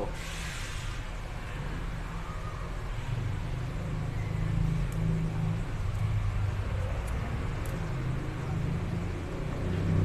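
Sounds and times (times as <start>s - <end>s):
engine rumbling: 1.0s - 10.0s.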